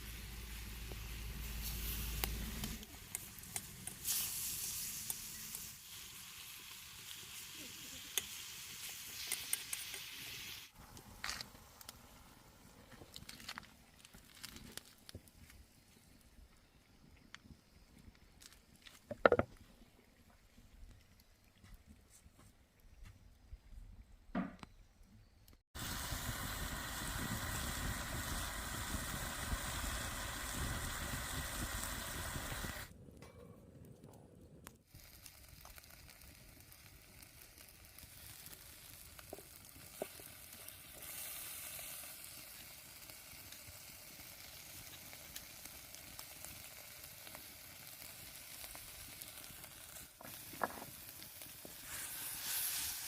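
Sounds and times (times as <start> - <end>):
wood fire hissing and crackling: 0.0 - 19.4, 25.5 - 33.0, 34.0 - 53.0.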